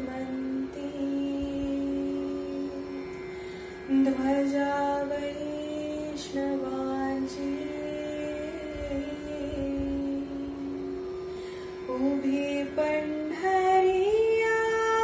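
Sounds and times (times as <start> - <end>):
steady drone note: 0.0 - 15.0.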